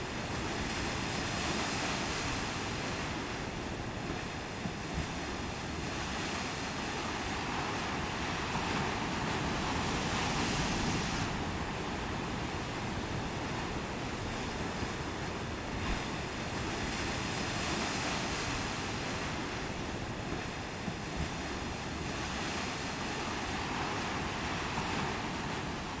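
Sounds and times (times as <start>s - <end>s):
waves breaking: 0.0s - 26.0s
wind buffeting microphone: 0.0s - 26.0s.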